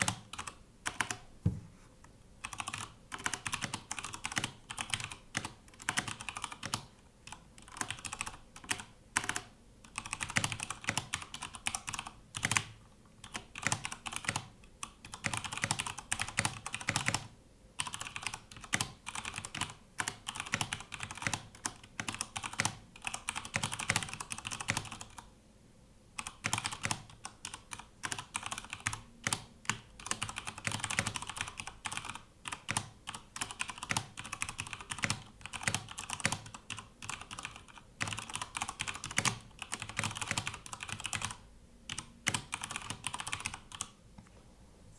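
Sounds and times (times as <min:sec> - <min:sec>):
mechanical keyboard typing: 0:00.0 - 0:01.2, 0:02.4 - 0:25.3, 0:26.2 - 0:44.0.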